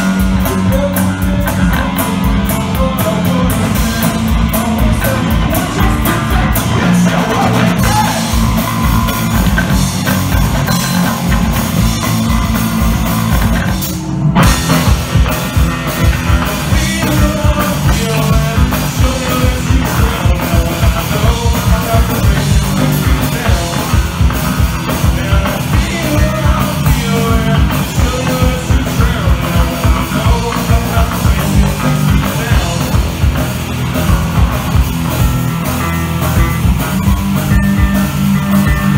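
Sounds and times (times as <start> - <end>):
drum kit: 0.0 - 38.9
electric bass: 0.0 - 38.9
electric guitar: 0.0 - 38.9.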